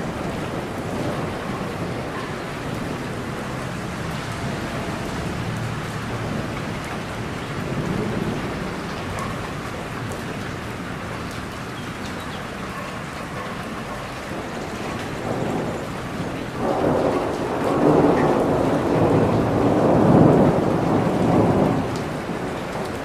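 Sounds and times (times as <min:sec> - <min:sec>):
thunder rumbling: 0:00.0 - 0:10.8, 0:14.4 - 0:23.0
steady rain: 0:00.0 - 0:23.0.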